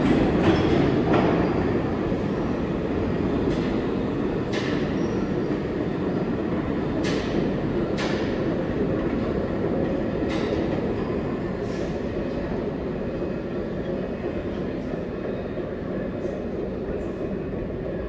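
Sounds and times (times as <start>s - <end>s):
subway train rumbling: 0.0s - 18.0s.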